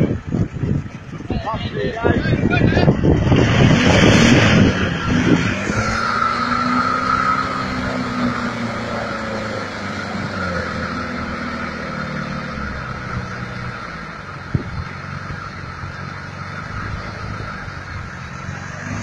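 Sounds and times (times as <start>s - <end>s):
engine revving: 1.7s - 19.0s.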